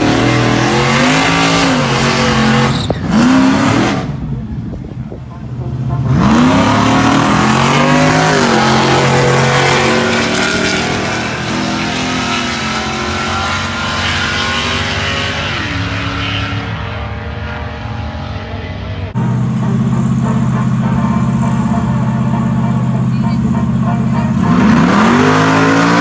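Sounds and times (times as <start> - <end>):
drag racing trucks accelerating: 0.0 - 26.0
steady engine drone: 0.0 - 26.0.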